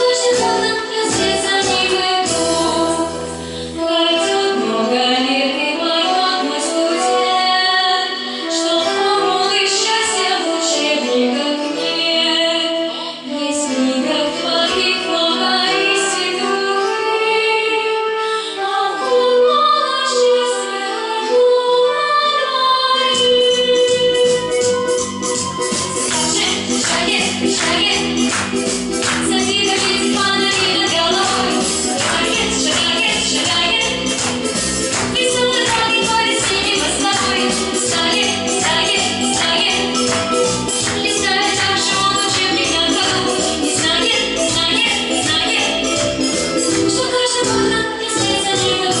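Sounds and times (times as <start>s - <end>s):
woman singing: 0.0s - 25.1s, 25.9s - 49.0s
instrumental backing: 0.0s - 49.0s.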